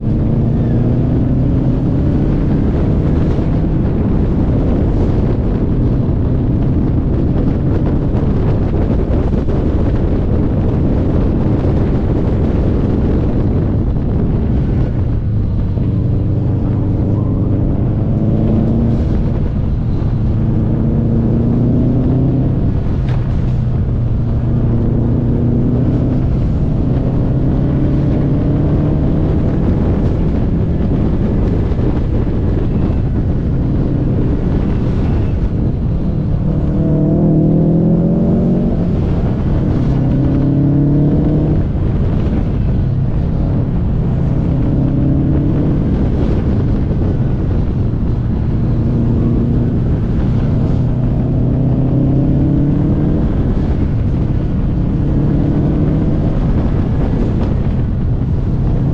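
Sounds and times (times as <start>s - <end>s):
car engine revving: 0.0s - 58.9s
road and wind noise: 0.0s - 58.9s.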